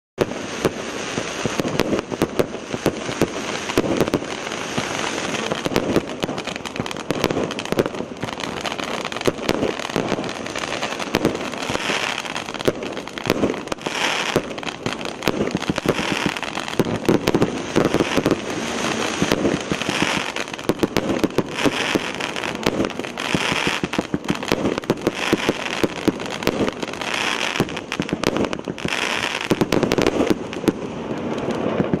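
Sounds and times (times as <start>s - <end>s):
firework crackling: 0.2s - 32.0s.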